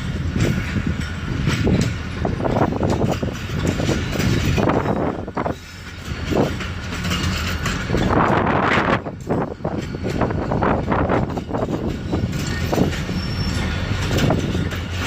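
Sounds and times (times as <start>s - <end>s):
train wheels clacking over rails: 0.0s - 15.0s.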